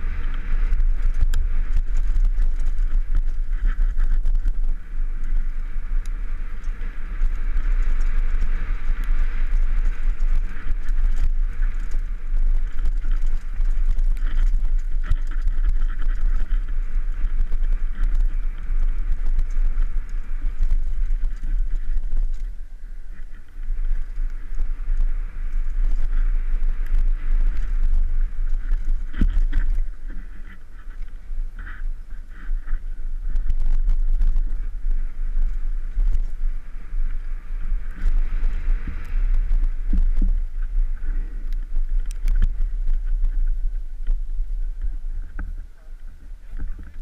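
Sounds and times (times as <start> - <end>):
bike clicks and rattles: 0.0 - 47.0
wind buffeting microphone: 0.0 - 47.0.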